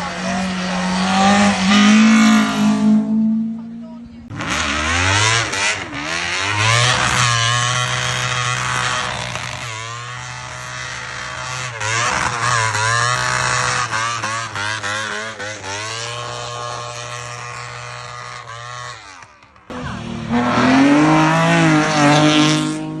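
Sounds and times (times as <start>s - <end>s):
car accelerating hard: 0.0s - 23.0s
race car engines revving: 0.0s - 23.0s.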